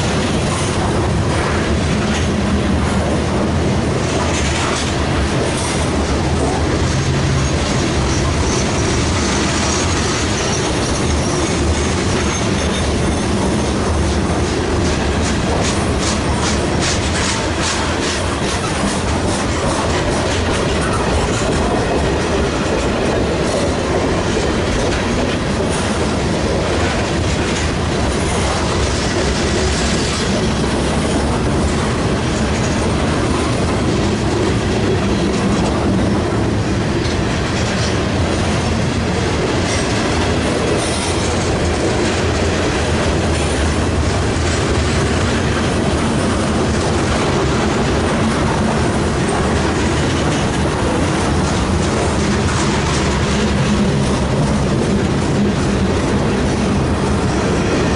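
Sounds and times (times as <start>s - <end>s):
train wheels rumbling on track: 0.0s - 57.9s
wheels clacking over rail joints: 0.0s - 57.9s.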